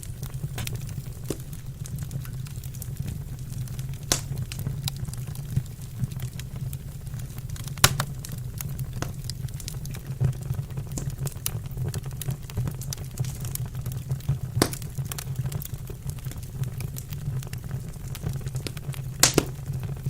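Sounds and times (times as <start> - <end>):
fire crackling and popping: 0.0 - 20.0
fire low rumble: 0.0 - 20.0.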